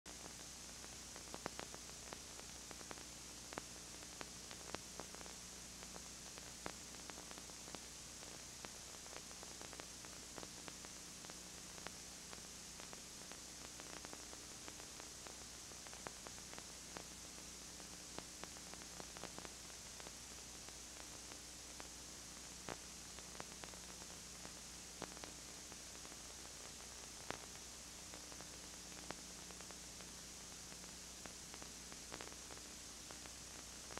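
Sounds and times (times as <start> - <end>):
low electrical hum: 0.1 - 33.9
tape hiss: 0.1 - 33.9.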